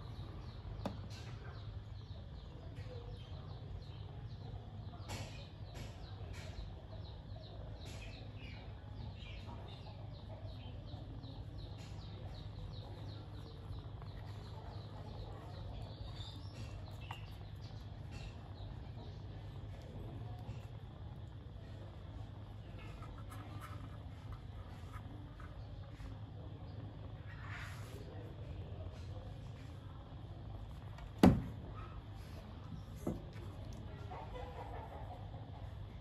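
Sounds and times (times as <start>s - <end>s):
small birds chirping: 0.0s - 36.0s
steady low hum: 0.0s - 36.0s.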